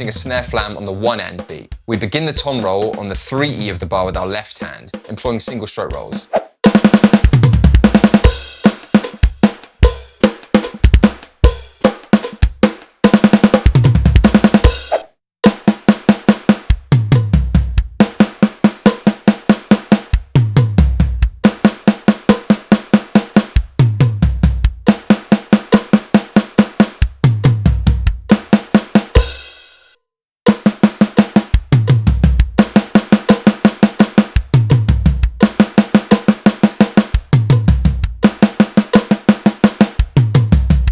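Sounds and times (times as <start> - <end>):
bass drum: 0.0 - 29.6, 30.5 - 40.9.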